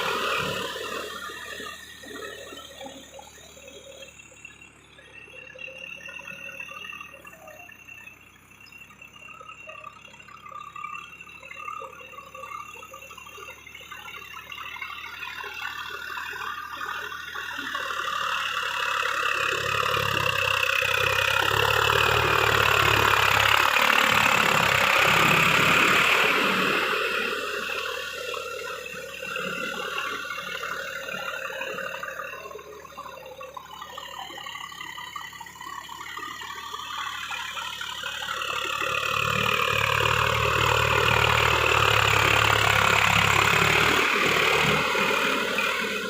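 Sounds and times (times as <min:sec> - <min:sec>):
tractor diesel engine passing: 0:00.0 - 0:46.0.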